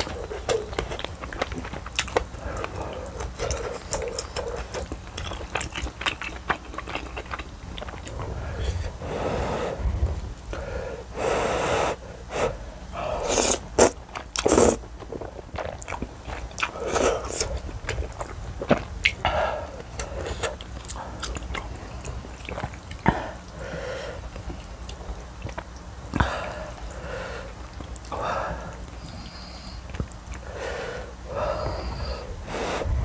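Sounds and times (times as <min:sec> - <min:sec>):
slurping and chewing noodles: 0:00.0 - 0:10.6, 0:11.2 - 0:33.0.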